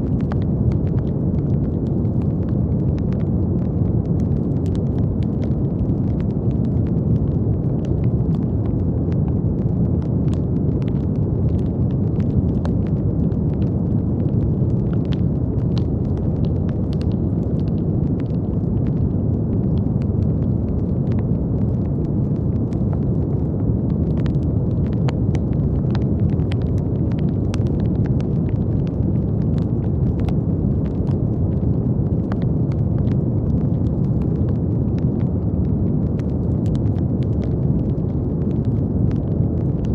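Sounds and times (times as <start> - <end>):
faint crackles: 0.0 - 39.9.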